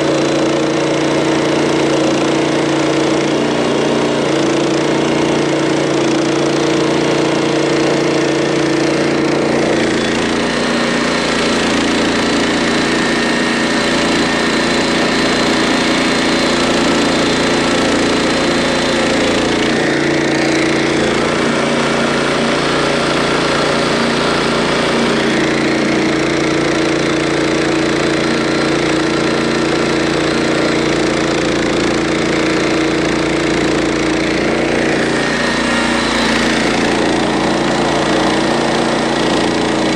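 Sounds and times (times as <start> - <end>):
band saw blade cutting log: 0.0 - 39.9
small gasoline engine running: 0.0 - 39.9.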